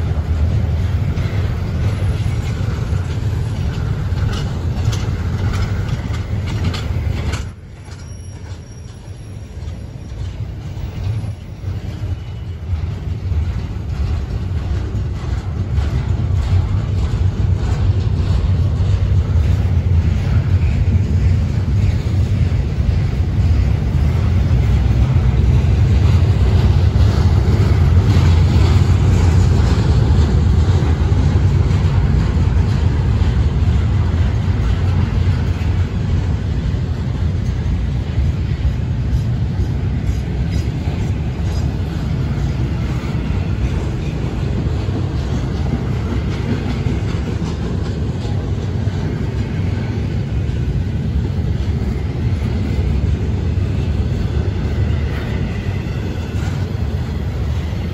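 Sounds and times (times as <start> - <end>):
freight train wheels rumbling on rail: 0.0 - 57.9.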